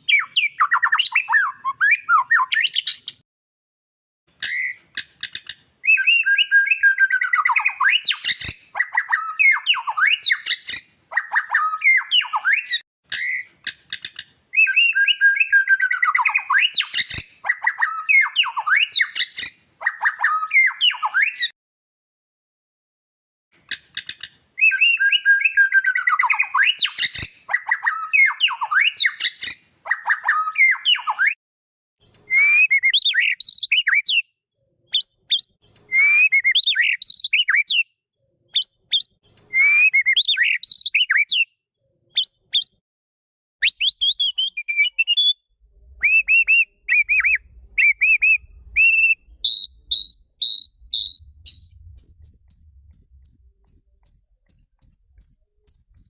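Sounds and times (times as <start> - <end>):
bird singing whistled phrases: 0.0 - 3.2, 5.8 - 13.4, 14.5 - 21.5, 24.6 - 31.4, 32.3 - 34.3, 34.9 - 37.9, 38.5 - 41.5, 42.2 - 42.8, 43.6 - 56.0.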